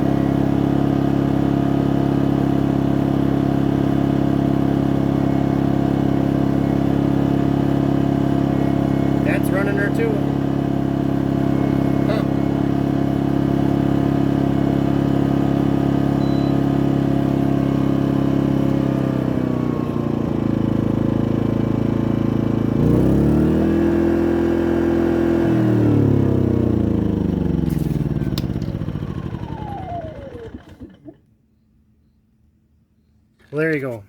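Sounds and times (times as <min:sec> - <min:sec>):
generator engine running: 0:00.0 - 0:31.3.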